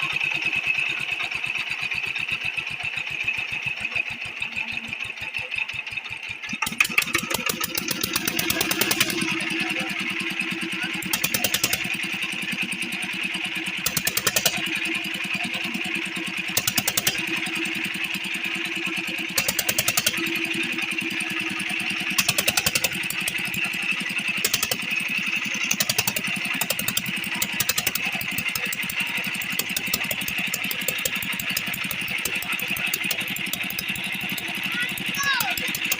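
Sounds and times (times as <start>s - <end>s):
diesel engine chugging: 0.0s - 35.9s.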